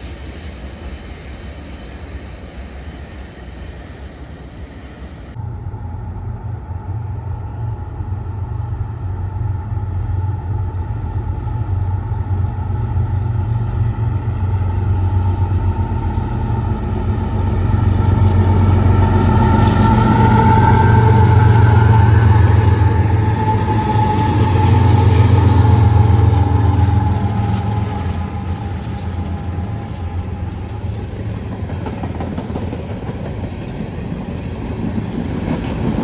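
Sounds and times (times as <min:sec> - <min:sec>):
diesel train passing: 0:00.0 - 0:36.0.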